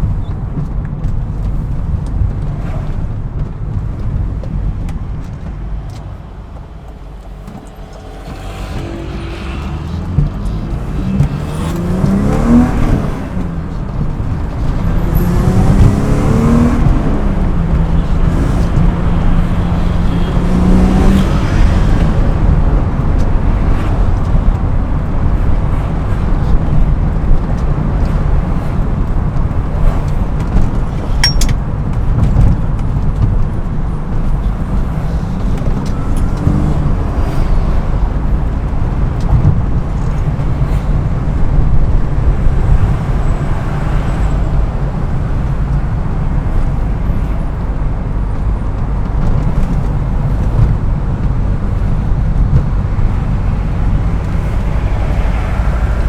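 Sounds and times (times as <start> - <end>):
car engine revving: 7.0 - 56.0.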